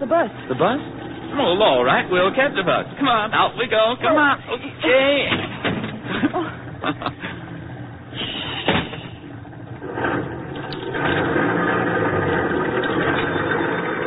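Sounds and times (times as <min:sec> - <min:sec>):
bus engine running: 0:00.0 - 0:14.0.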